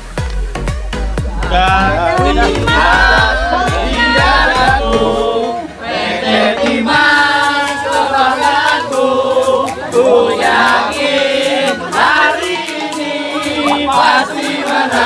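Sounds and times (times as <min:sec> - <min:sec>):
group chanting in unison: 0:01.5 - 0:15.0.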